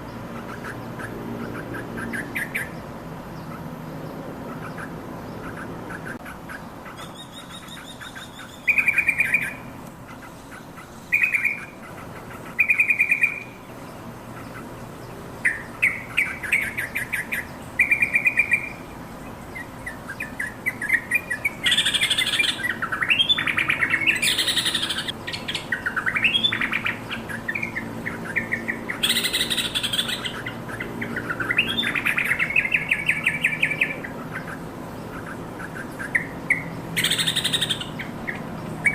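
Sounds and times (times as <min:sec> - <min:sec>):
bird chattering calls: 0:00.0 - 0:02.8, 0:04.4 - 0:38.9.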